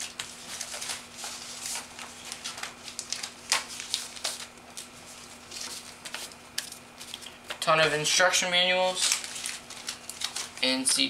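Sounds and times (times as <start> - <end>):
packaging rustling: 0.0 - 7.6, 8.8 - 10.8.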